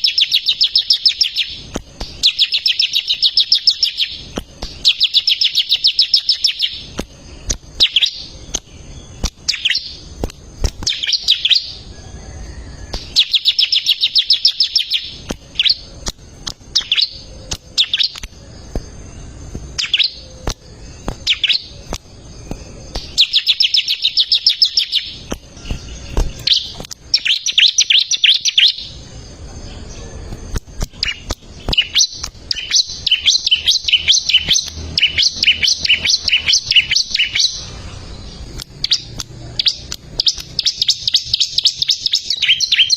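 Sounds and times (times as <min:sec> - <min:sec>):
bird singing rapid trills: 0:00.0 - 0:42.9
sharp bird chips: 0:00.0 - 0:42.9.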